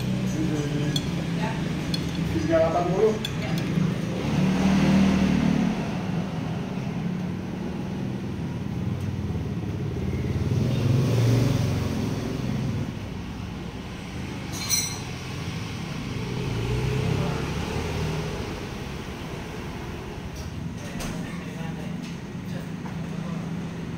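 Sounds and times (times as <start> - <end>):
road traffic engines rumbling: 0.0 - 23.9.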